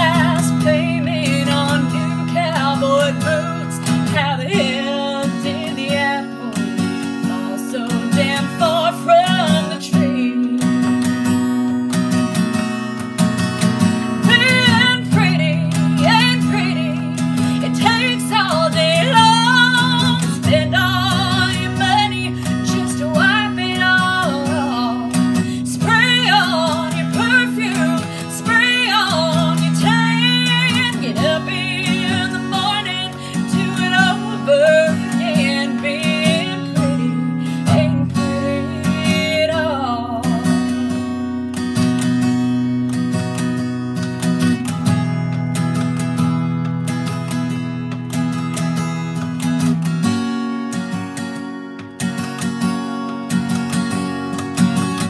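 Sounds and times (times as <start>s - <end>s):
strummed acoustic guitar: 0.0s - 55.0s
woman singing country song: 0.0s - 55.0s.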